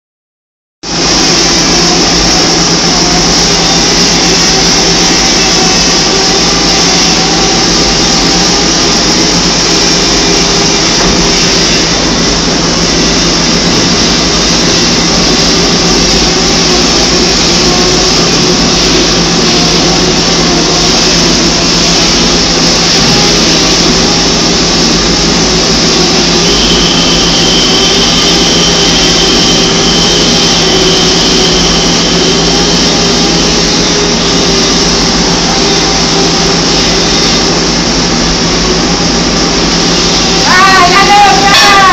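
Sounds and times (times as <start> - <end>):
loud machinery hum: 0.8 - 41.9
faint high whine: 0.9 - 41.9.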